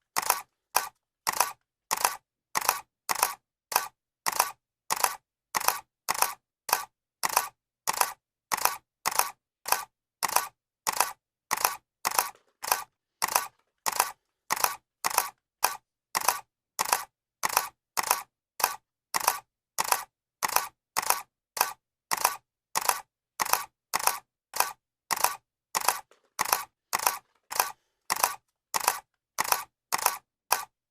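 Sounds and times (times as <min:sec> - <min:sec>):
camera shutter clicking: 0:00.2 - 0:30.7.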